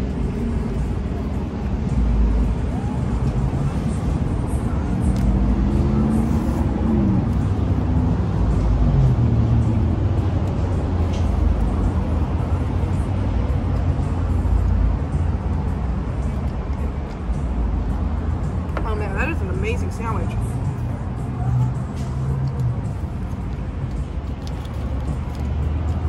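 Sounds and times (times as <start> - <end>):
heavy vehicle engine: 0.0 - 26.0
road traffic: 0.0 - 26.0.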